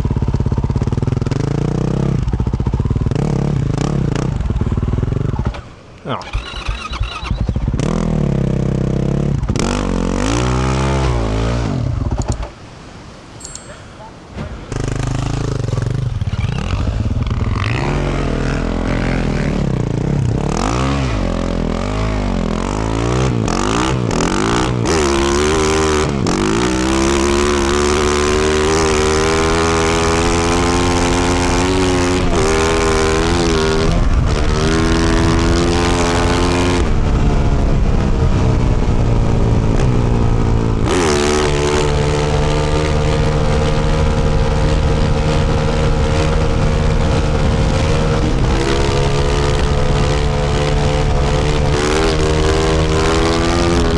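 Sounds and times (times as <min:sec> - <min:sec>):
motorcycle engine revving: 0:00.0 - 0:12.4, 0:14.6 - 0:53.9.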